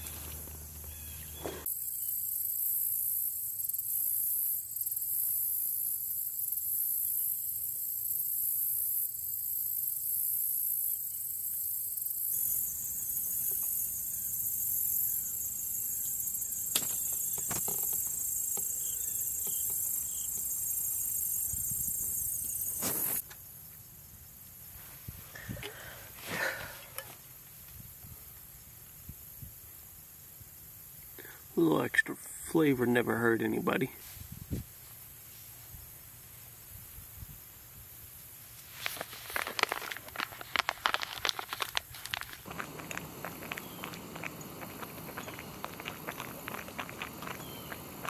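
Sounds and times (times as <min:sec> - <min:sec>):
insects chorus: 0:00.0 - 0:34.0, 0:34.6 - 0:48.0.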